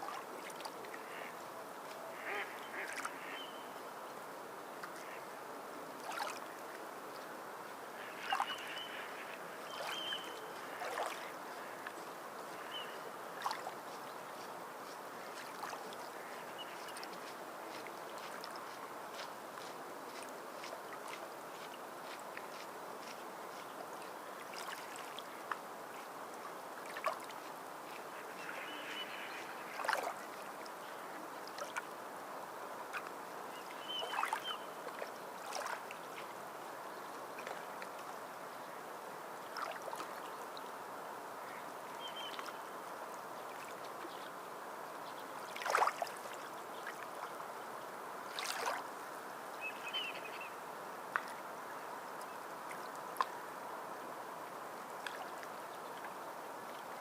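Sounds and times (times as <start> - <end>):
water lapping and splashing: 0.0 - 3.5, 4.7 - 57.0
moving water wash: 0.0 - 57.0.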